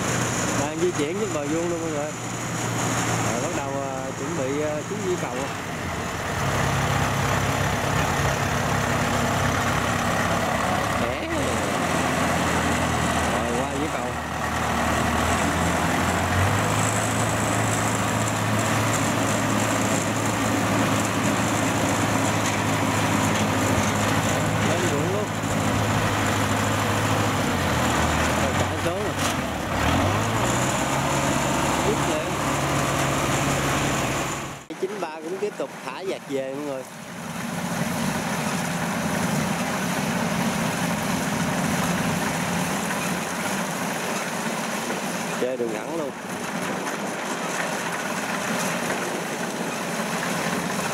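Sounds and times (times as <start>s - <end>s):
threshing machinery: 0.0s - 50.9s
tracked carrier engine running: 0.0s - 50.9s.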